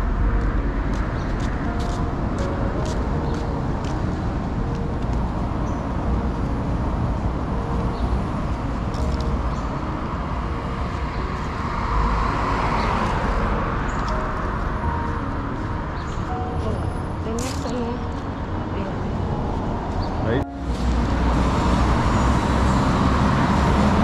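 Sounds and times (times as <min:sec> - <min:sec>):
road traffic rumble: 0:00.0 - 0:24.0
vehicle passing: 0:00.0 - 0:24.0.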